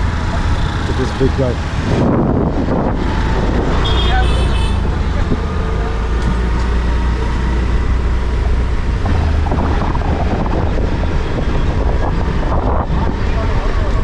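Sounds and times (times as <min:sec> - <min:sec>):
motorbike engine: 0:00.0 - 0:14.0
road noise: 0:00.0 - 0:14.0.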